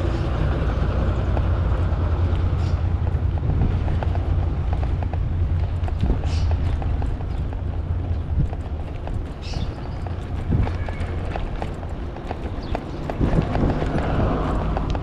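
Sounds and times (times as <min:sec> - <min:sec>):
bicycle rolling: 0:00.0 - 0:15.0
bike clicks and rattles: 0:00.0 - 0:15.0
wind buffeting microphone: 0:00.0 - 0:15.0.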